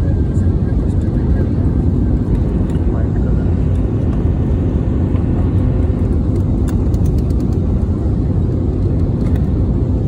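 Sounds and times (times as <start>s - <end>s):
jet cabin engine and airflow roar: 0.0s - 10.0s.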